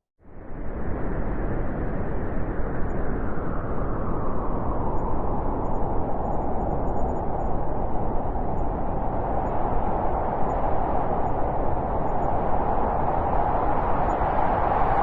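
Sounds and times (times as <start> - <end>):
howling wind: 0.2 - 15.0.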